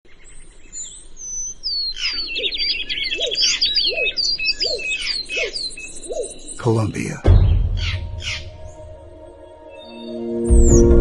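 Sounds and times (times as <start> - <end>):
birds chirping: 0.1 - 11.0
birds whistling: 0.1 - 11.0
low bird call: 1.9 - 11.0.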